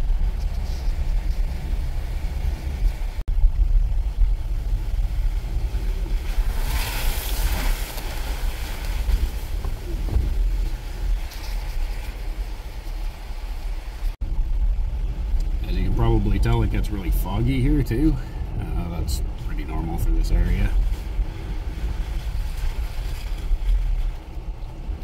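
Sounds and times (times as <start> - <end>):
vehicle cabin rumble on gravel: 0.0 - 25.0
water and mud splashing windshield: 0.0 - 25.0.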